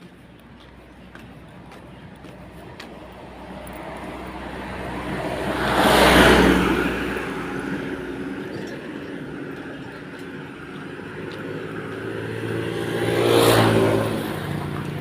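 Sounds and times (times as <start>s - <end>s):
engine hum: 0.0s - 15.0s
vehicle passing by: 2.2s - 15.0s.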